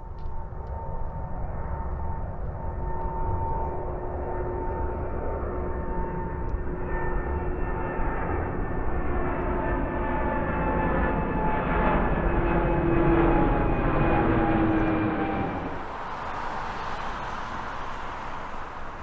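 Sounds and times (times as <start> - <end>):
jet engines roaring: 0.7 - 19.0.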